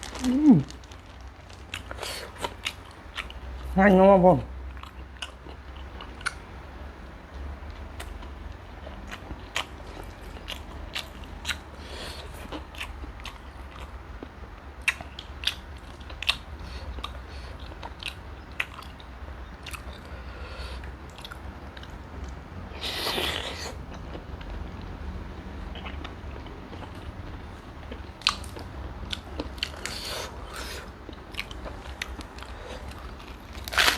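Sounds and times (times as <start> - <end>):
person chewing and crunching food: 0.0 - 6.4, 7.8 - 24.6, 25.8 - 33.9.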